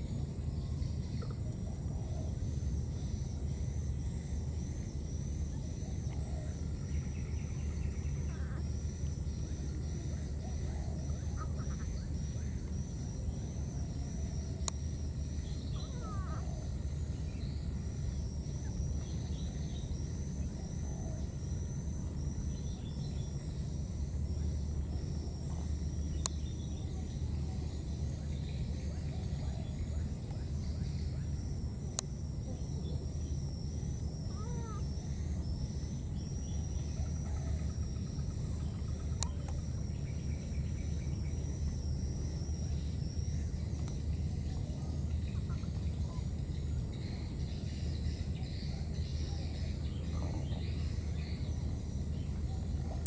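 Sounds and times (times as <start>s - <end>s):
faint chirping calls: 0.0s - 53.0s
insects trilling: 0.0s - 53.0s
low steady rumble: 0.0s - 53.0s.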